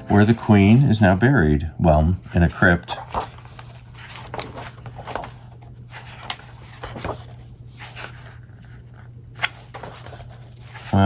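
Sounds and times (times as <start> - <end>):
book pages turning: 0.0 - 1.0, 2.3 - 11.0.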